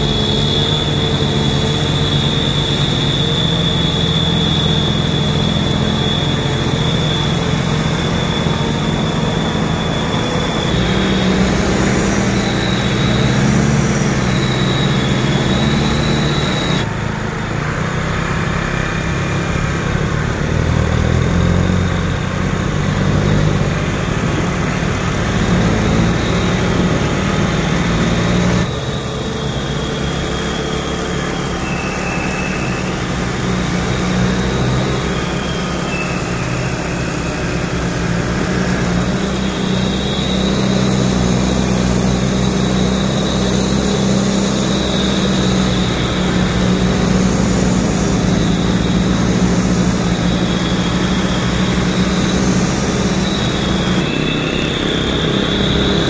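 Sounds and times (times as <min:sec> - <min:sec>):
diesel truck engine humming: 0:00.0 - 0:56.0.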